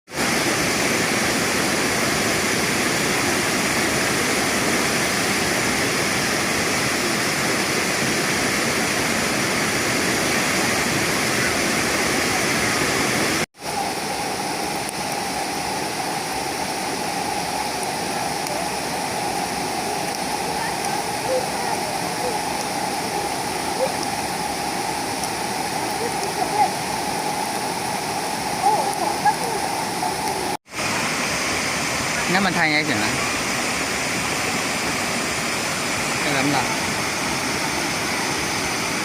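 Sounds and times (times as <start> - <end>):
waterfall rushing: 0.1 - 39.0.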